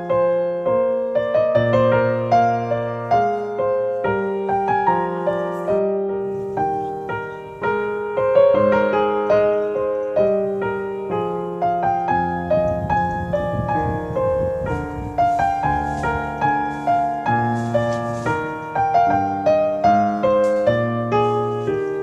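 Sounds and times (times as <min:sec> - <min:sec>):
solo piano melody: 0:00.0 - 0:22.0.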